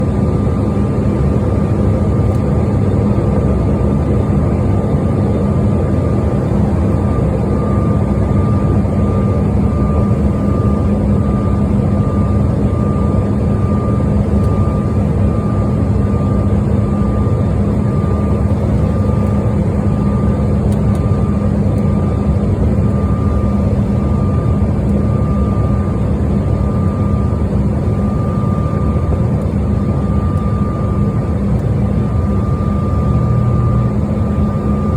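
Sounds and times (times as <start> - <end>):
airliner engine and airflow roar: 0.0 - 34.9
steady low hum: 0.0 - 34.9
faint pulsing high tone: 6.0 - 34.9.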